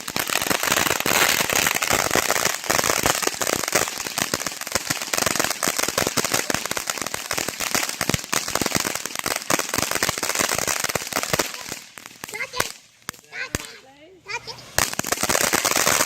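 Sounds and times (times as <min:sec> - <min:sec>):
firework crackling pops: 0:00.0 - 0:13.9, 0:14.5 - 0:16.0.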